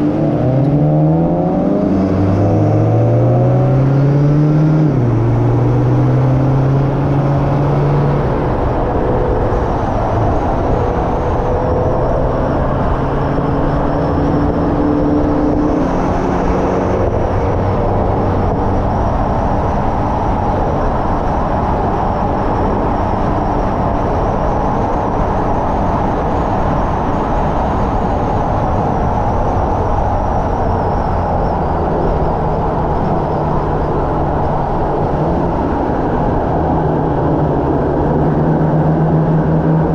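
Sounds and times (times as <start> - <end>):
car engine under load: 0.0 - 39.9
road and wind noise: 0.0 - 39.9.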